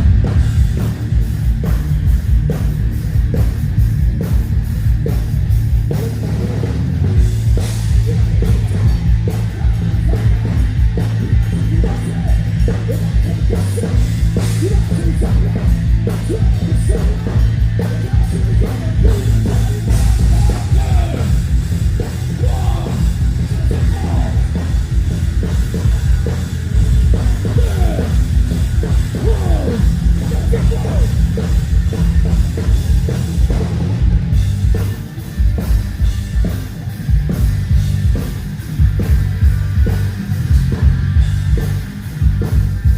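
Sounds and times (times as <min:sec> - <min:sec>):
distorted electric guitar: 0:00.0 - 0:42.9
heavy bass: 0:00.0 - 0:42.9
pounding drum kit: 0:00.0 - 0:42.9.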